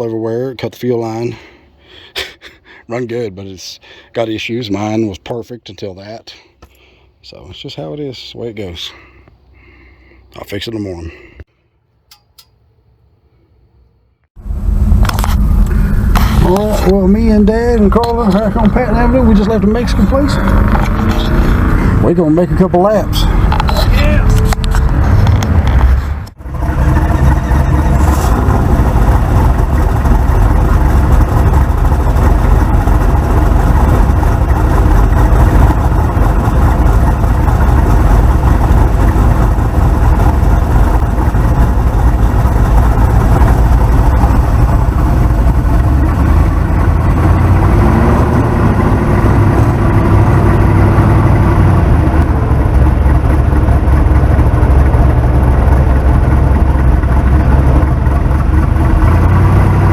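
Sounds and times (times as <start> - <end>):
car engine and exhaust droning: 2.9 - 59.9.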